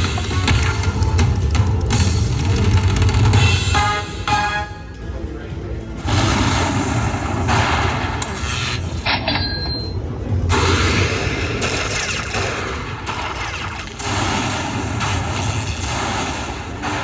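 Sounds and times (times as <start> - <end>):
slot machine booming effects: 0.0 - 4.8, 6.0 - 9.8, 10.5 - 17.0.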